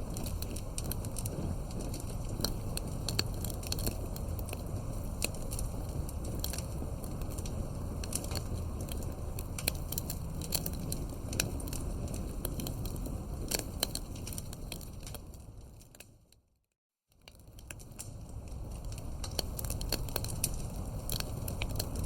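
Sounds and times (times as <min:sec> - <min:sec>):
campfire crackling: 0:00.0 - 0:16.4, 0:17.2 - 0:22.0.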